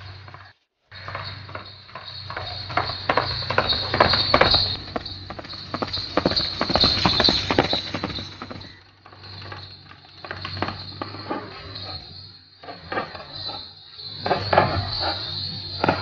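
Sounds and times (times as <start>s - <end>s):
horse galloping on dirt: 0.0s - 16.0s.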